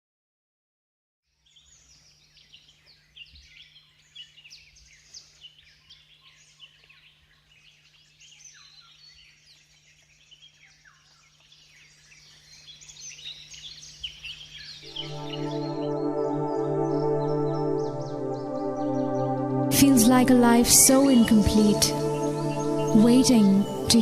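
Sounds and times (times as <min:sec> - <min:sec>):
birds chirping and calling: 0:01.5 - 0:24.0.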